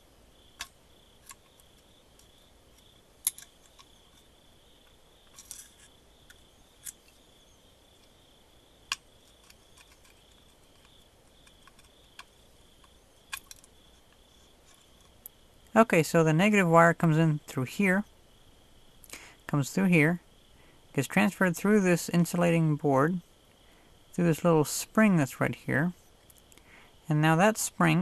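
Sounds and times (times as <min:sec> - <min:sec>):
faint high cricket chirping: 0:00.0 - 0:28.0.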